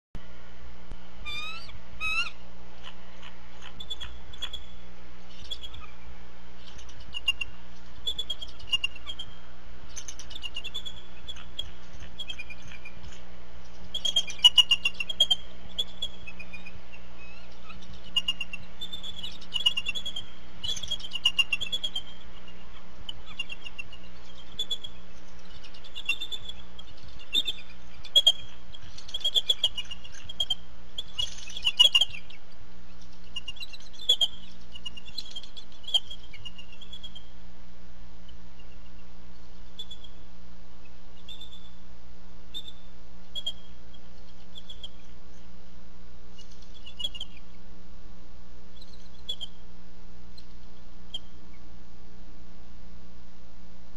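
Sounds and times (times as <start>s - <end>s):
low electrical hum: 0.2s - 53.9s
eagles chittering chirps: 1.2s - 37.4s, 38.3s - 41.8s, 42.5s - 45.5s, 46.3s - 47.6s, 48.7s - 49.6s.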